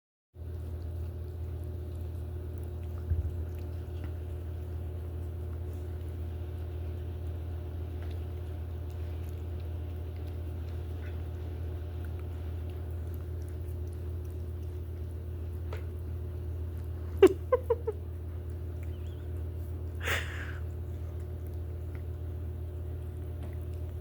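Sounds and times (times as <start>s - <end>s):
cat licking and eating: 0.4s - 24.0s
low hum: 0.4s - 24.0s.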